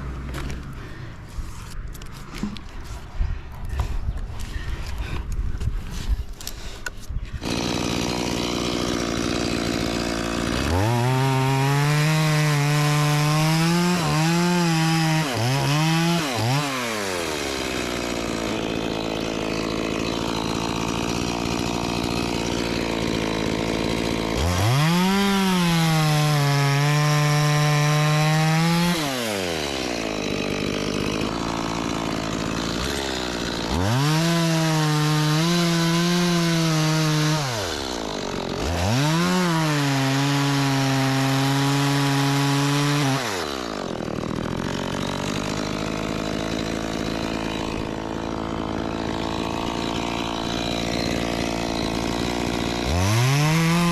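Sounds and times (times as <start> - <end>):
chainsaw idling and revving: 0.0 - 3.0, 7.4 - 53.9.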